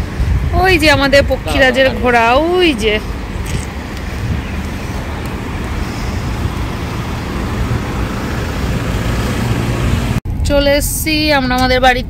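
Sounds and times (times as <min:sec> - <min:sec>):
road traffic rushing: 0:00.0 - 0:10.4.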